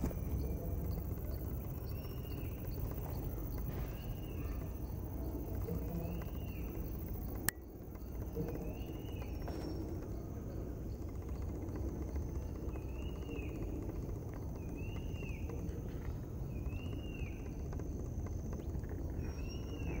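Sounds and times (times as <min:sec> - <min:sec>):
crickets droning: 0:00.0 - 0:20.0.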